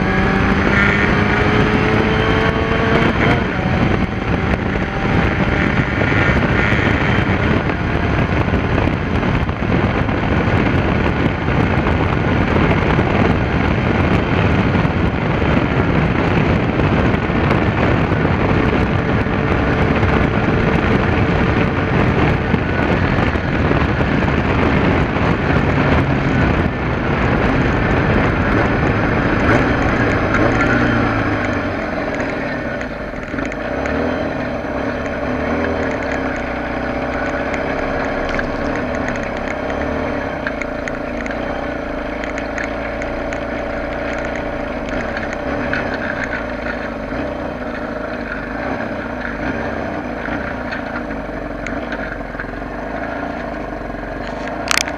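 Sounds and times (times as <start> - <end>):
motorcycle engine: 0.0 - 54.9
wind rush over microphone: 0.0 - 54.9.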